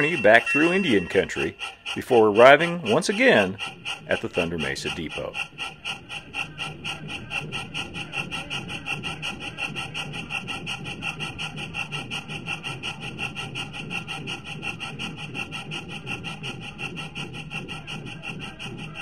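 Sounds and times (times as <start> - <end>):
steam locomotive chuffing: 0.0 - 19.0
train rumbling on track: 0.0 - 19.0.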